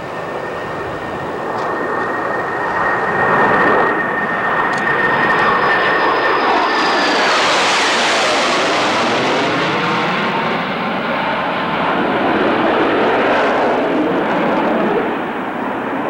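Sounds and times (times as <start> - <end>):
fighter jets flying past: 0.0 - 16.0
high jet whine: 0.0 - 16.0.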